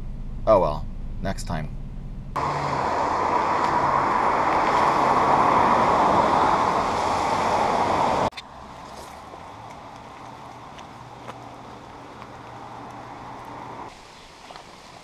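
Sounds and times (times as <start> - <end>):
tyres hissing on wet pavement: 2.4 - 15.0.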